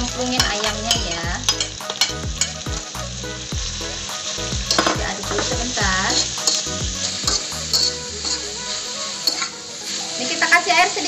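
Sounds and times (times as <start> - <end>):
spatula stirring and tapping wok: 0.0 - 9.6
food sizzling in oil: 0.0 - 11.0.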